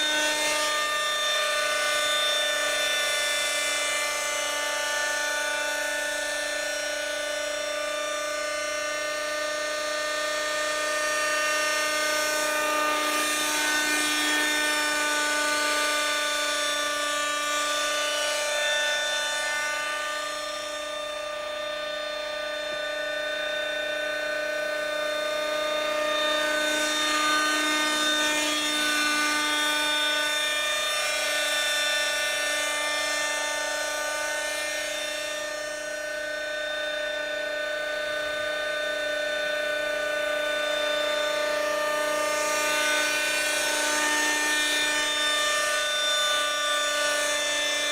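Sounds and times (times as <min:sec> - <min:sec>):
model helicopter engine whine: 0:00.0 - 0:47.9.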